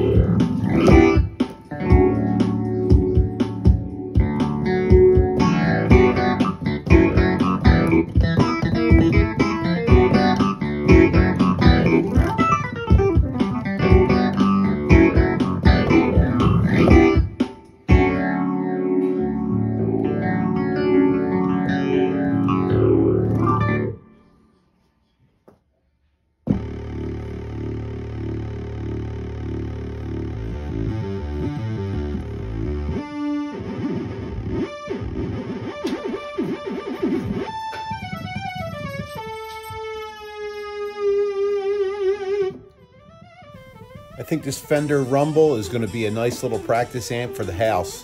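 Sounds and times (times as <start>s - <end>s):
keyboard playing notes and chords: 0.0s - 24.6s, 26.5s - 48.0s.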